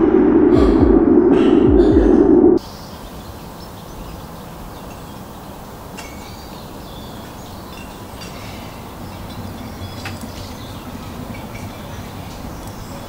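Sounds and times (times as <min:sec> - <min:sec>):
outdoor ambient noise: 0:00.0 - 0:13.0.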